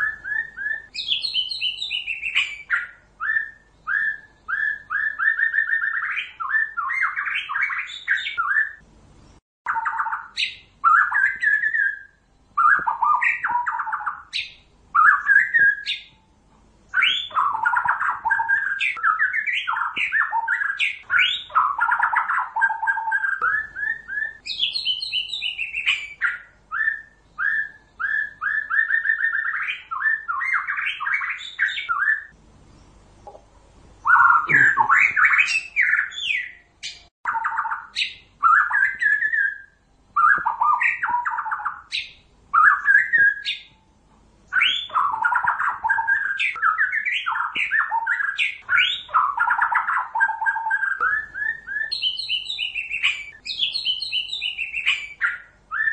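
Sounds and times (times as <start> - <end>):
bird singing whistled phrases: 0.0 - 8.8, 9.7 - 16.2, 16.9 - 32.4, 34.0 - 43.8, 44.5 - 55.9.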